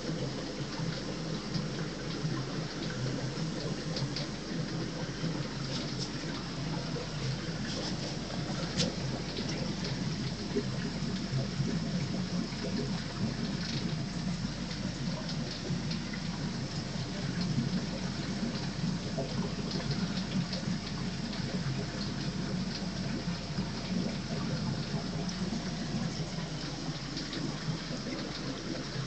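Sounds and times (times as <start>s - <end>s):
aquarium water rushing: 0.0s - 29.0s.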